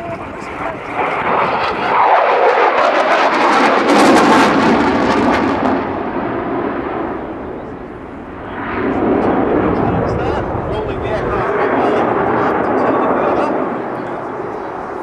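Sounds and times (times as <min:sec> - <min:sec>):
jet fighter passing: 0:00.0 - 0:15.0.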